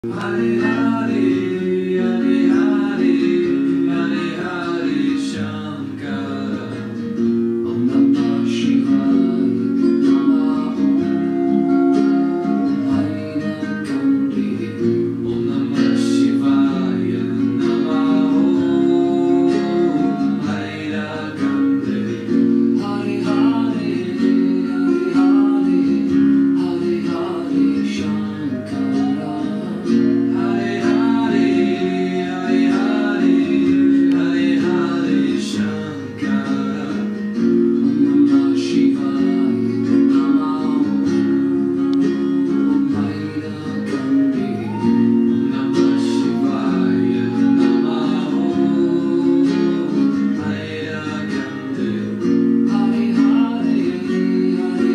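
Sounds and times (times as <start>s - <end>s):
person singing: 0.0s - 54.9s
plucked guitar: 0.0s - 54.9s.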